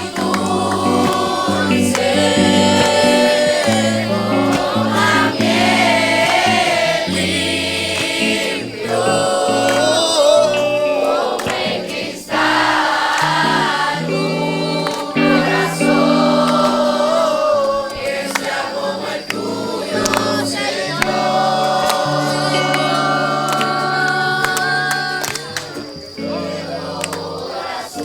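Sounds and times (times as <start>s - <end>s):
choir singing sustained notes: 0.0s - 28.0s.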